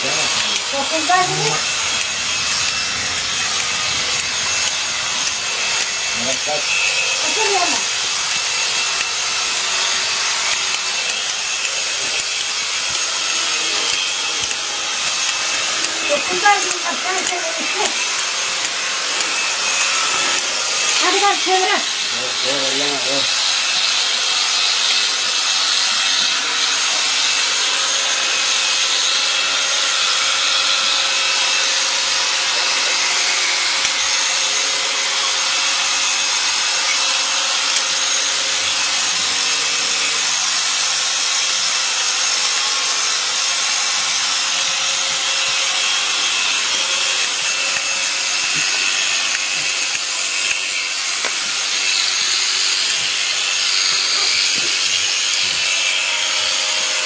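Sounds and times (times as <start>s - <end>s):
shears rasping through fleece: 0.0s - 57.0s.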